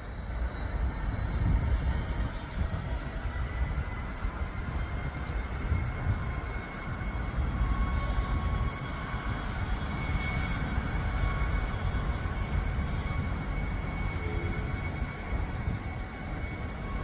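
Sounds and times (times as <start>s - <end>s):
faint steady whine: 0.0s - 17.0s
train rumbling: 0.0s - 17.0s.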